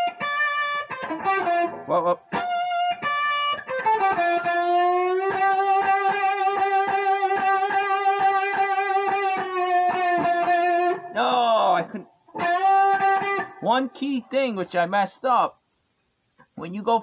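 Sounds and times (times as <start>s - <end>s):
electric guitar blues lick: 0.0s - 14.4s.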